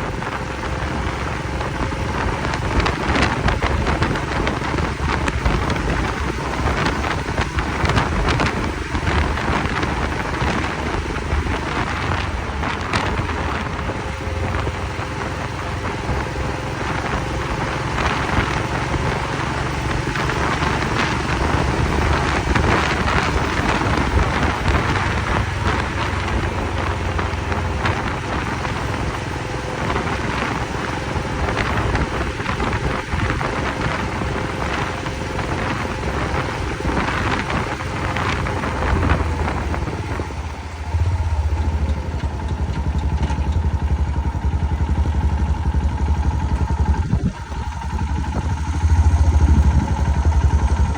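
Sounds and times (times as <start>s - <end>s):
motorcycle engine: 0.0s - 50.9s
road noise: 0.0s - 50.9s
wind rushing over microphone: 0.0s - 50.9s.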